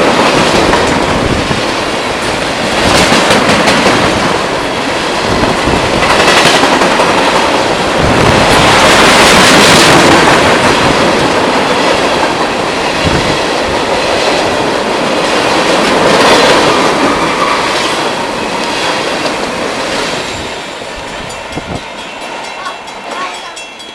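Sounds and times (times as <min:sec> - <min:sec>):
freight train wheels clattering: 0:00.0 - 0:23.9.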